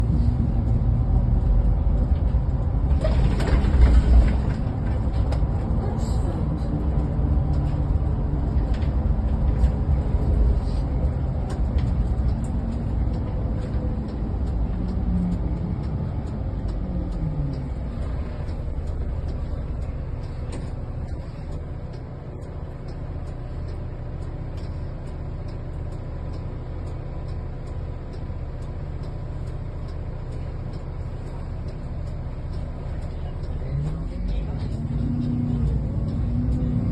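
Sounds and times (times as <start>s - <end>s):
bus engine and road rumble: 0.0s - 36.9s.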